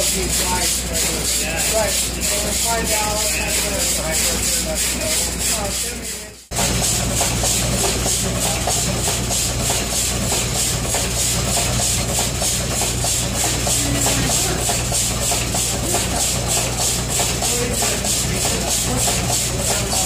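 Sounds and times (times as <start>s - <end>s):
steam engine running: 0.0s - 20.0s.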